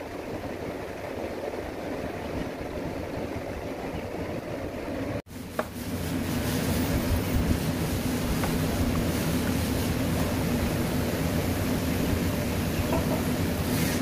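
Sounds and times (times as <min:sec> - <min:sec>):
low rumbling machinery hum: 0:00.0 - 0:14.0.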